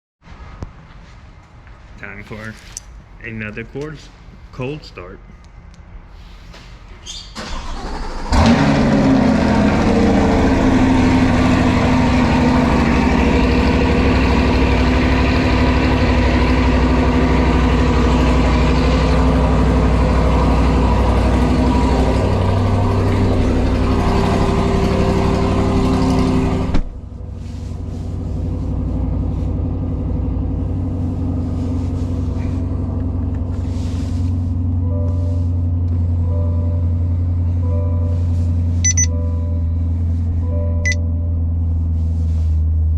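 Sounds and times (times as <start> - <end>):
car engine idling: 7.4 - 42.9.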